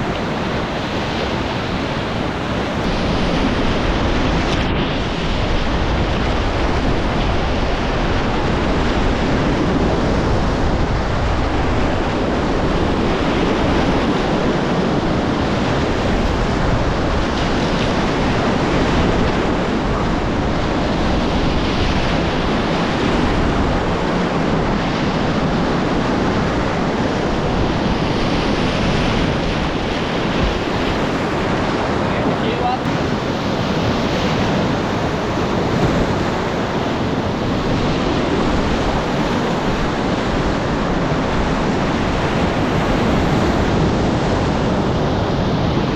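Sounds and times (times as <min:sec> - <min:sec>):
river rapids rushing: 0:00.0 - 0:45.9
wind noise on microphone: 0:00.0 - 0:45.9.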